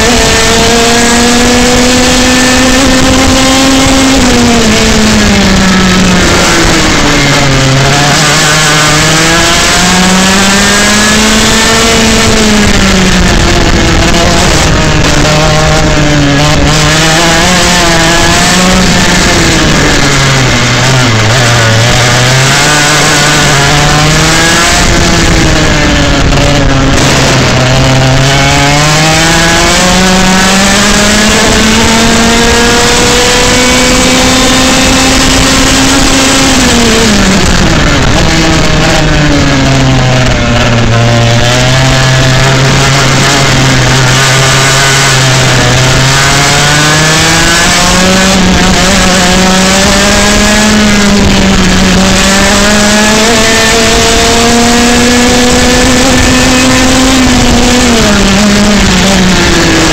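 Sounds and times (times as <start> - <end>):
two-stroke kart engine revving: 0.0 - 59.9.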